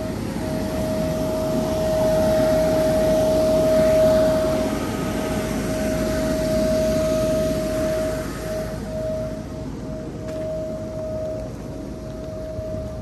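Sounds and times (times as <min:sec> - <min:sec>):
electric blower whining: 0:00.0 - 0:13.0.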